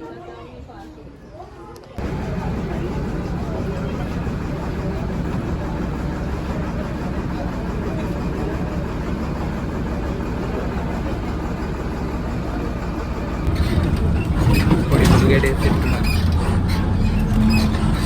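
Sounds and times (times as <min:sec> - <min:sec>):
bus engine running: 0:02.0 - 0:18.0.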